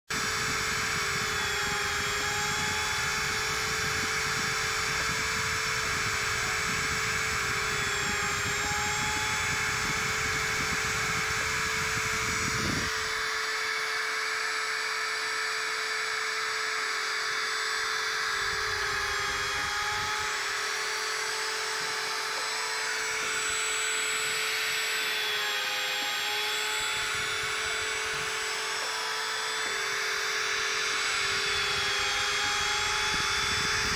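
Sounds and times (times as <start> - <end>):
drilling machine whine: 0.1 - 33.9.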